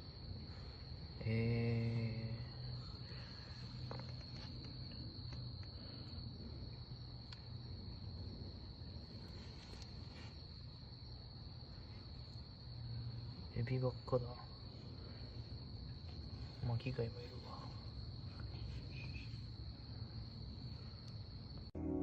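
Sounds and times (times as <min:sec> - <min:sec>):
crickets trilling: 0:00.0 - 0:22.0
low steady hum: 0:00.0 - 0:22.0.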